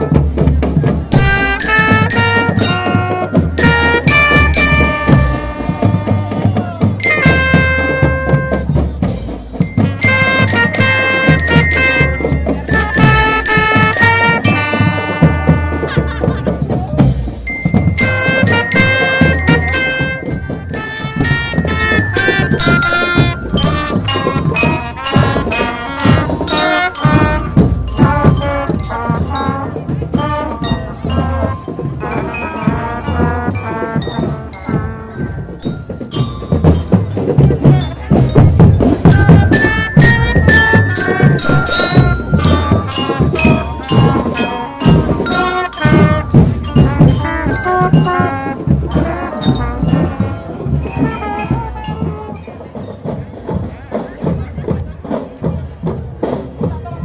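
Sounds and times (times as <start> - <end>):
marching drums: 0.0 - 57.0
mallet-struck bell melody: 1.1 - 54.5.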